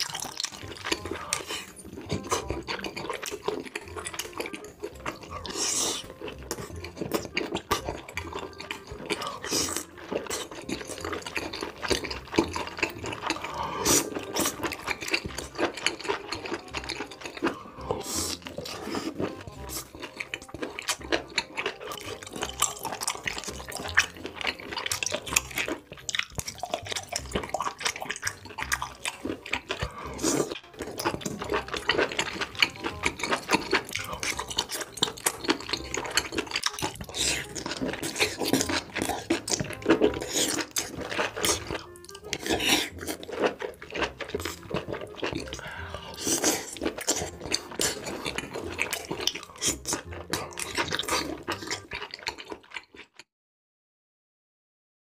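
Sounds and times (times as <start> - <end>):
wet chewing and mouth smacks: 0.0 - 53.3.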